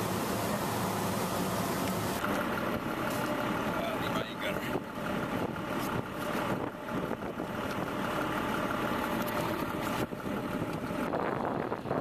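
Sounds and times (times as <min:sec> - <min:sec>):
engine-like running noise: 0:00.0 - 0:12.0.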